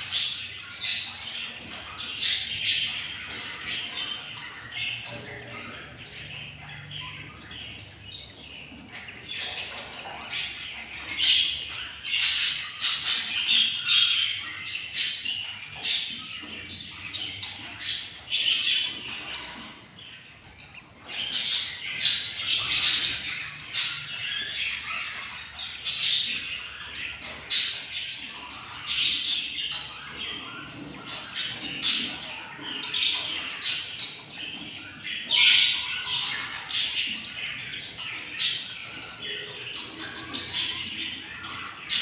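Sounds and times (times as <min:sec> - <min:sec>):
budgerigars squawking: 0:00.0 - 0:42.0.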